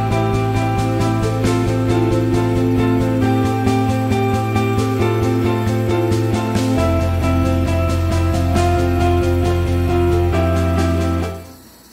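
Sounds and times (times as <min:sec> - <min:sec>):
background music with steady beat: 0:00.0 - 0:11.9.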